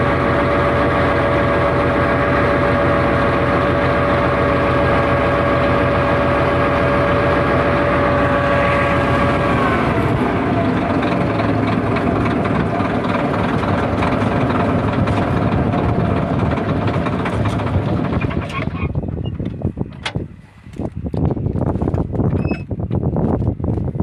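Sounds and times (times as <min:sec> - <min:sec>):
high whine: 0:00.0 - 0:19.3
bulldozer engine running: 0:00.0 - 0:24.0.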